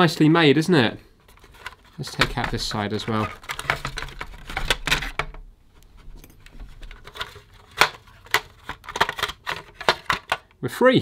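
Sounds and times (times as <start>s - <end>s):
hard plastic parts clicking: 1.2s - 10.6s.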